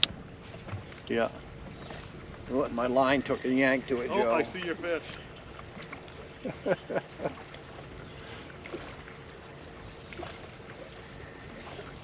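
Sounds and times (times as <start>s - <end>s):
wind and water noise: 0.0s - 12.0s.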